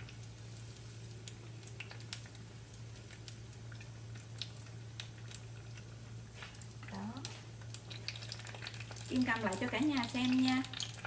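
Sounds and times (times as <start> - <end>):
oil sizzling and popping: 0.0 - 11.0
steady low hum: 0.0 - 11.0.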